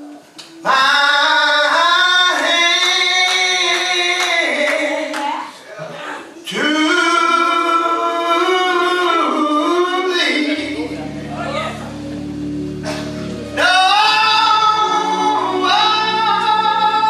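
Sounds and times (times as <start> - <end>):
gospel singing: 0.0 - 17.0.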